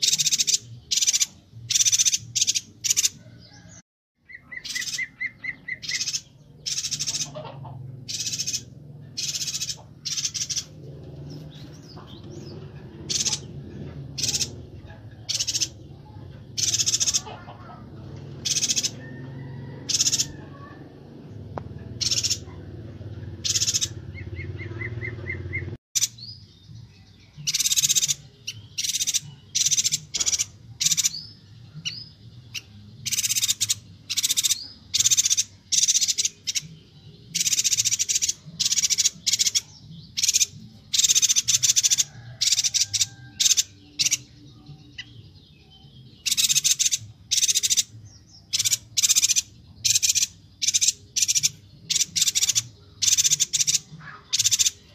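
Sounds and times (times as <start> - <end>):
bird chattering calls: 0.0 - 3.6, 4.2 - 20.8, 21.7 - 26.2, 27.4 - 45.4, 46.1 - 54.9.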